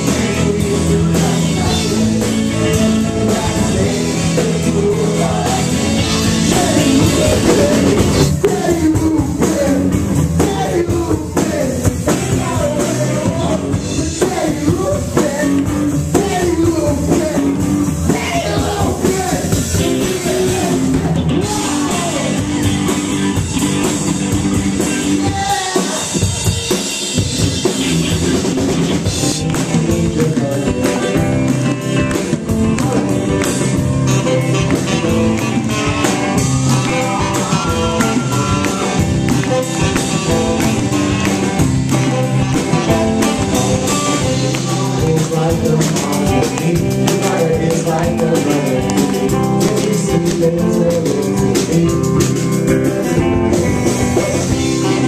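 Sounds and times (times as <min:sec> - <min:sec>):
drum kit: 0:00.0 - 0:55.0
guitar: 0:00.0 - 0:55.0
live rock band playing: 0:00.0 - 0:55.0.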